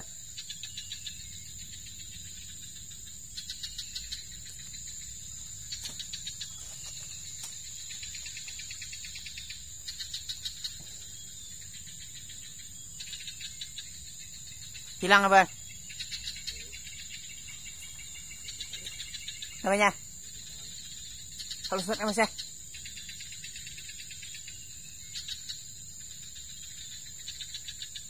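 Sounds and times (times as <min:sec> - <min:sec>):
insects droning: 0:00.0 - 0:28.0
rapid high insect chirping: 0:00.0 - 0:28.0.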